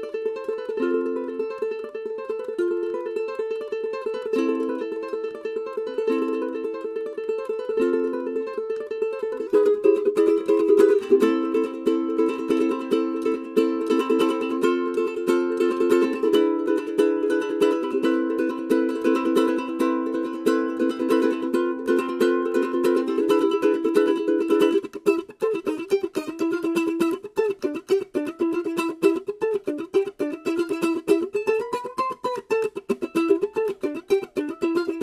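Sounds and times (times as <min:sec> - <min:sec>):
ukulele picked melody: 0:00.0 - 0:35.0
ukulele strummed chords: 0:00.0 - 0:35.0.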